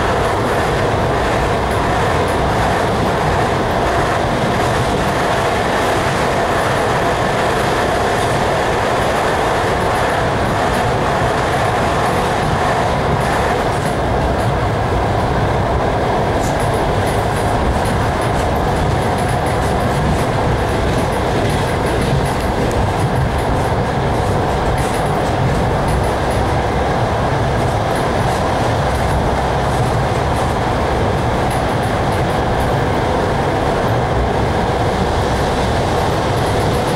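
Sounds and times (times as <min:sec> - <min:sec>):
freight train passing: 0:00.0 - 0:36.9
train wheels rumbling on rails: 0:00.0 - 0:36.9.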